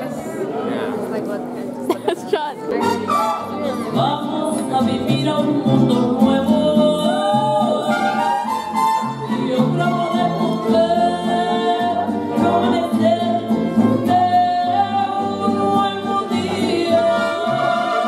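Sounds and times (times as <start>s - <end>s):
strummed guitars: 2.7s - 18.0s.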